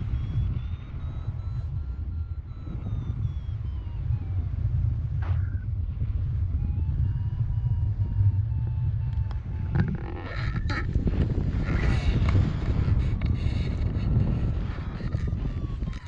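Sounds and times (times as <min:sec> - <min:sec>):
airflow buffeting microphone: 0:00.0 - 0:16.0
electronic variometer tone: 0:00.0 - 0:16.0.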